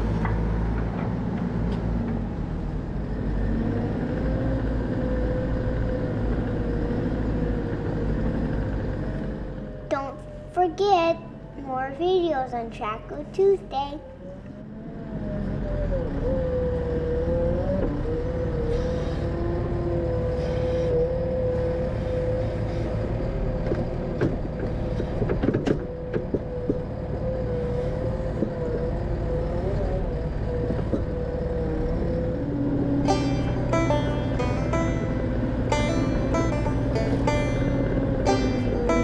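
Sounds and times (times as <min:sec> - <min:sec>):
heavy equipment engine drone: 0:00.0 - 0:39.0.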